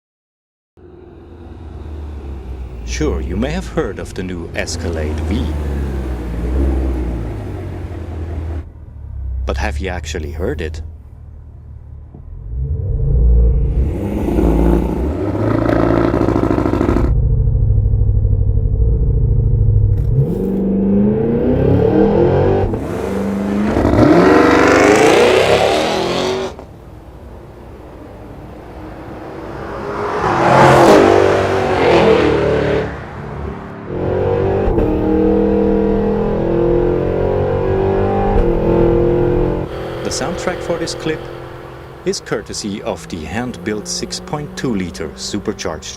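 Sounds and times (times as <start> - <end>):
car engine accelerating hard: 0.8 - 10.6, 11.4 - 27.1, 27.7 - 45.9
engine rumble: 0.8 - 45.9.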